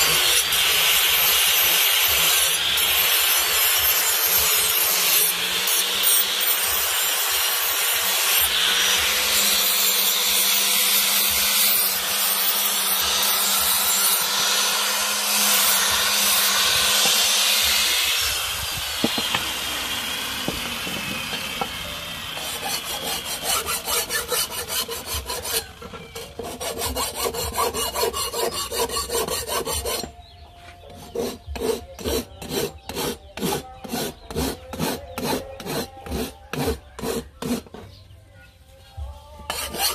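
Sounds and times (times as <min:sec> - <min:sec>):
hand file rasping on blade: 0:00.0 - 0:18.3, 0:22.4 - 0:30.2, 0:30.9 - 0:37.8, 0:39.4 - 0:39.9
angle grinder grinding steel: 0:00.0 - 0:30.3, 0:30.9 - 0:37.7, 0:39.4 - 0:39.9.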